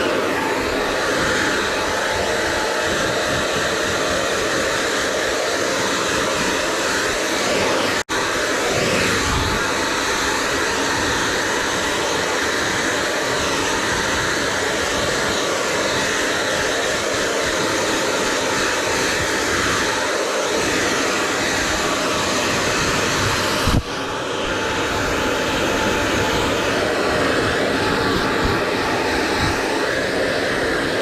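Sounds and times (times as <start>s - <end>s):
hair dryer blowing: 0.0s - 31.0s.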